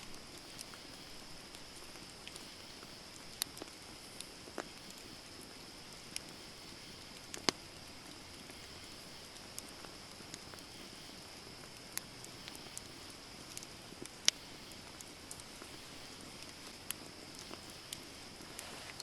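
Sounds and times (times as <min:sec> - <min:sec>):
campfire hiss: 0:00.0 - 0:19.0
crackles and pops of burning wood: 0:00.0 - 0:19.0.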